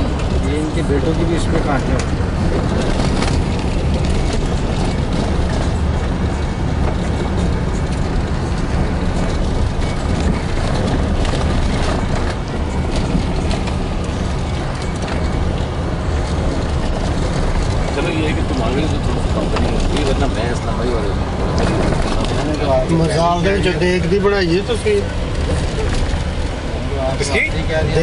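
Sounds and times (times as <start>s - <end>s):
small rattles and knocks: 0.0s - 28.0s
vehicle road and engine rumble: 0.0s - 28.0s.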